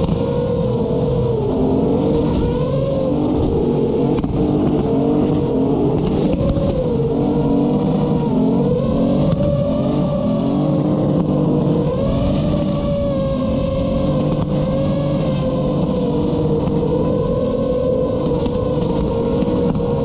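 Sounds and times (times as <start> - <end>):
car engine revving: 0.0 - 20.0
drone motors whining: 0.0 - 20.0.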